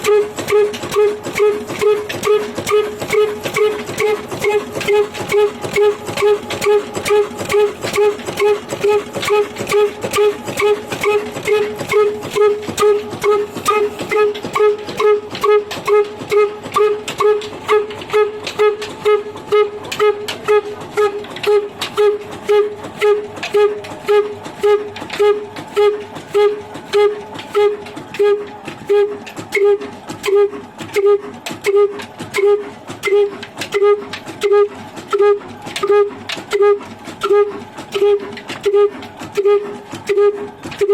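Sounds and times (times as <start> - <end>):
slow diesel engine exhaust beating: 0.0 - 40.9.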